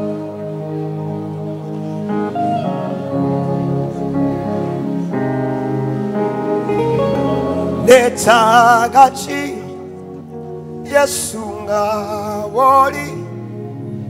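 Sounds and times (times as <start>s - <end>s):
instrumental worship music: 0.0s - 14.0s.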